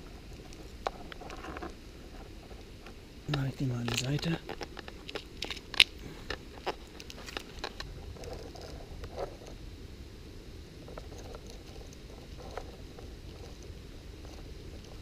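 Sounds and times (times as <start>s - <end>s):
faint scattered ticks: 0.0s - 9.7s, 10.8s - 15.0s
low steady rumble: 0.0s - 15.0s.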